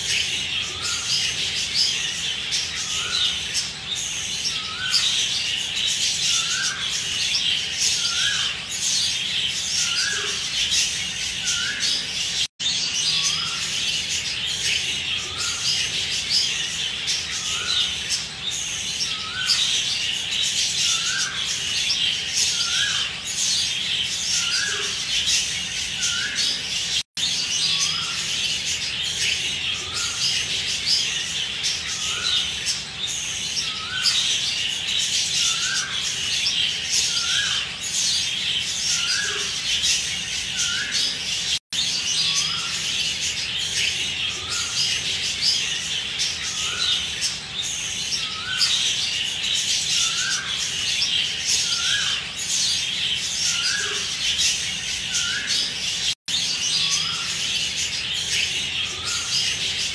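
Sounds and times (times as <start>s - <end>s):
cage birds chirping: 0.0s - 59.9s.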